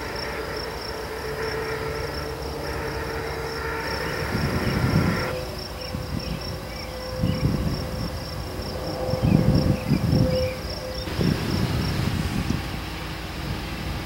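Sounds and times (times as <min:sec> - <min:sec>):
insects trilling: 0:00.0 - 0:13.2
low rumbling: 0:00.0 - 0:14.0.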